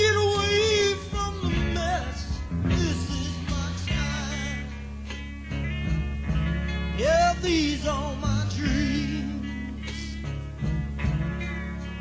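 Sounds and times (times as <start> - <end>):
psychedelic rock band playing: 0.0 - 12.0.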